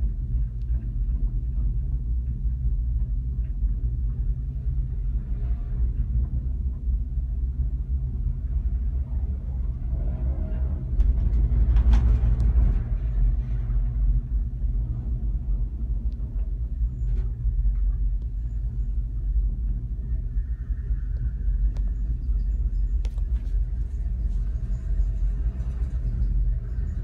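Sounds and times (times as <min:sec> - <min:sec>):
gondola cabin rumbling on cable: 0:00.0 - 0:27.0.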